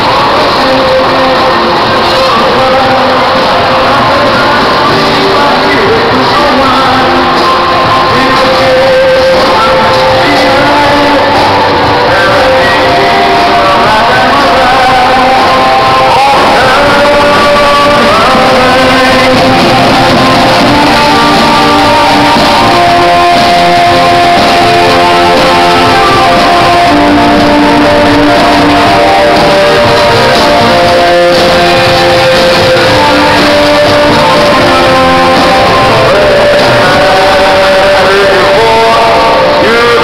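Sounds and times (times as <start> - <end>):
loud music with guitar: 0.0 - 40.0
person singing: 0.0 - 40.0.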